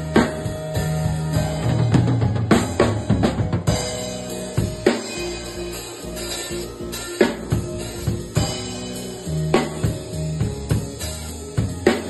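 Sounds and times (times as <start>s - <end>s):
drum kit hits: 0.0s - 12.0s
held bass notes: 0.0s - 12.0s.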